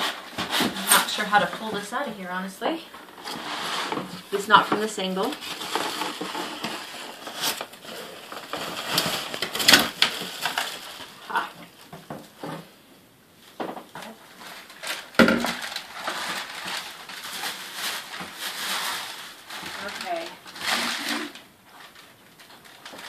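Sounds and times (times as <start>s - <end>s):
cardboard and plastic rustling: 0.0s - 12.8s, 13.4s - 23.0s.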